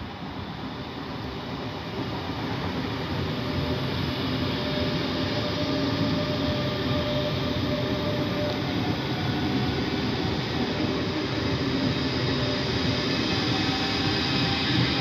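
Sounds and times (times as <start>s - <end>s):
train braking to a stop: 0.0s - 15.0s
train wheels on rails: 0.0s - 15.0s.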